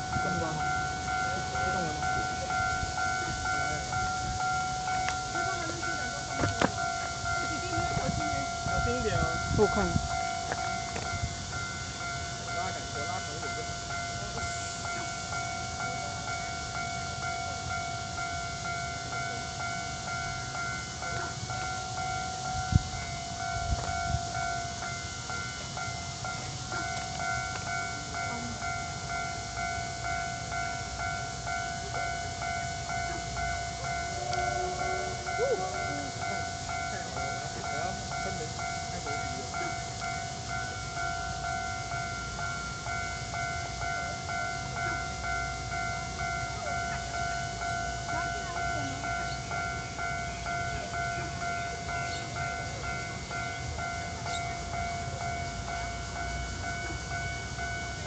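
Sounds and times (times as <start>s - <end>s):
level crossing warning chime: 0.0s - 58.0s.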